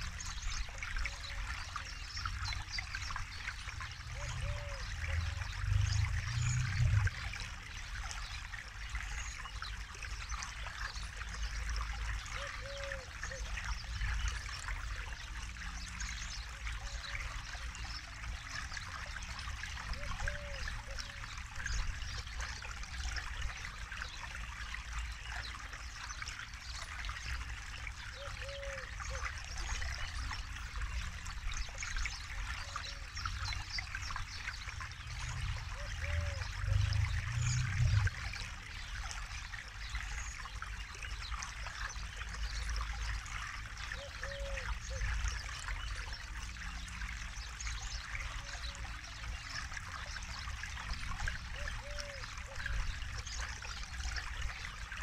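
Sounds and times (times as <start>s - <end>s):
river flowing and trickling: 0.0s - 55.0s.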